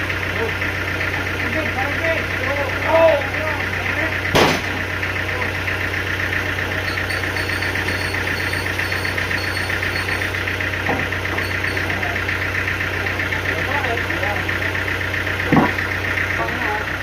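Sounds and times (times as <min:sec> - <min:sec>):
sawmill machinery humming and pulsing: 0:00.0 - 0:17.0.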